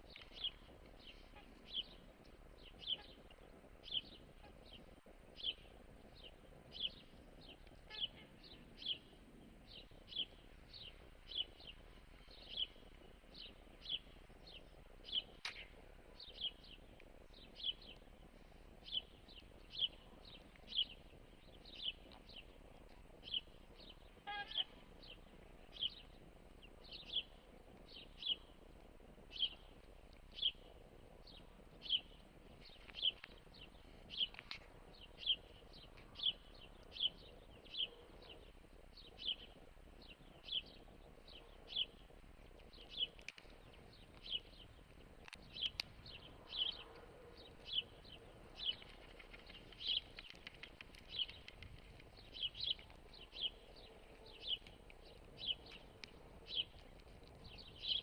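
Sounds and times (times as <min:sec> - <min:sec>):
bird chirping: 0:00.0 - 0:28.6, 0:29.2 - 0:58.0.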